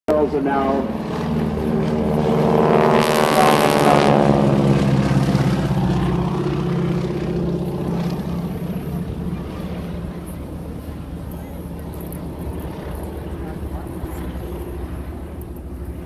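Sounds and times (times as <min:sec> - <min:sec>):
propeller aircraft flying past: 0:00.1 - 0:16.0.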